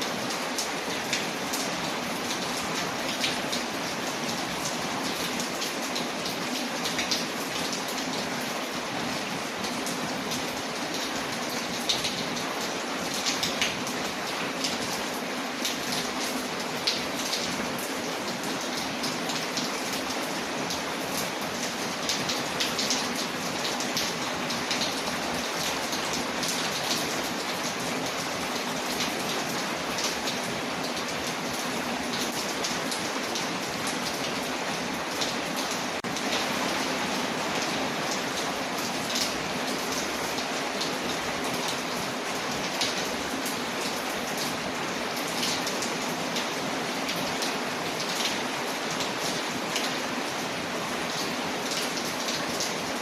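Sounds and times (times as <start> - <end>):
rain on a window: 0.0 - 53.0.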